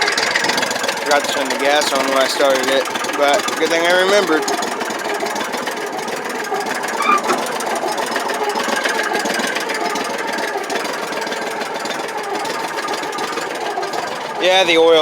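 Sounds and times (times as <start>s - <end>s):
utility vehicle engine idling: 0.0s - 15.0s.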